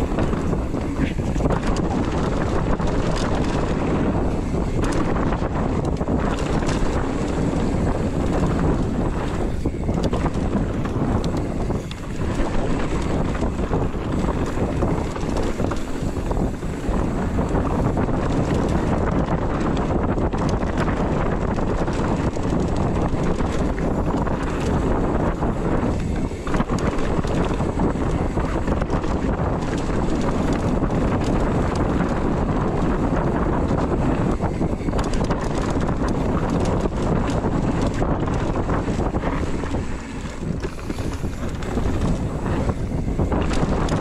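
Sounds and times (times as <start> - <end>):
bike rattling over rocks: 0.0 - 44.0
tyres rumbling on dirt: 0.0 - 44.0
wind rushing over microphone: 0.0 - 44.0.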